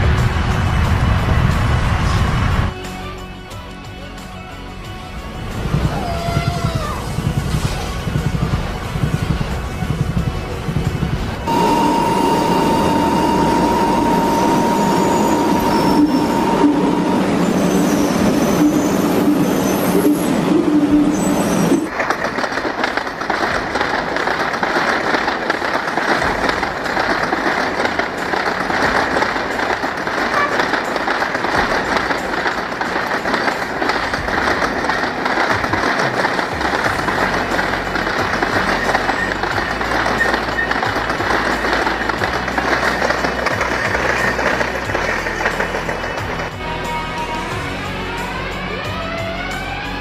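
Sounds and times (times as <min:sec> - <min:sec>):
high-speed train whine: 0:00.0 - 0:03.4, 0:04.4 - 0:50.0
rushing train noise: 0:00.0 - 0:50.0.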